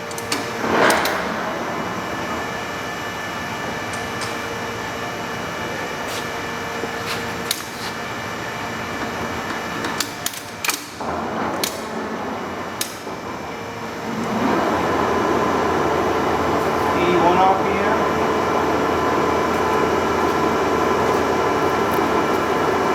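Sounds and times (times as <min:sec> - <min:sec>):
lathe humming: 0:00.0 - 0:07.4, 0:10.9 - 0:22.9.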